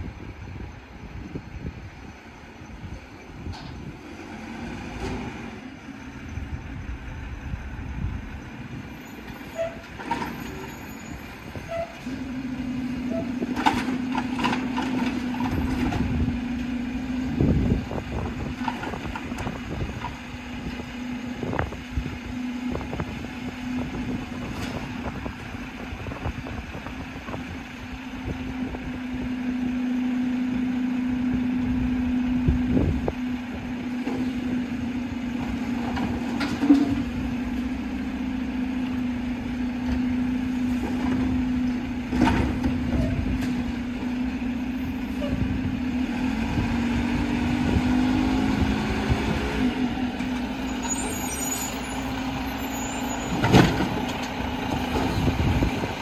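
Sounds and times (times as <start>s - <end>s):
garbage truck engine drone: 0.0s - 56.0s.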